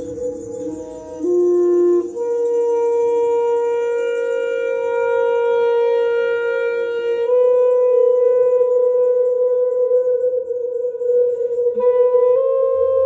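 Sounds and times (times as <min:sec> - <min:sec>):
instrument holding long note: 0:00.0 - 0:13.0.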